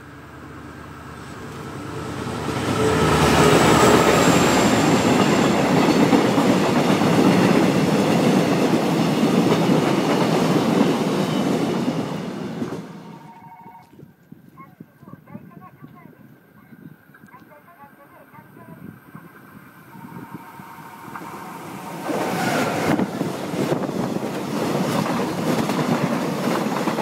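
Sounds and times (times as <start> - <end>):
passenger train passing: 0.0 - 13.6, 18.8 - 27.0.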